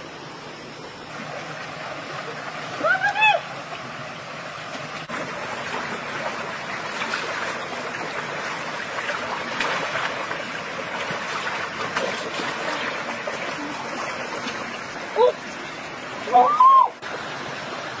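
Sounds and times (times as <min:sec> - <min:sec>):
stream running over rocks: 0:00.0 - 0:18.0.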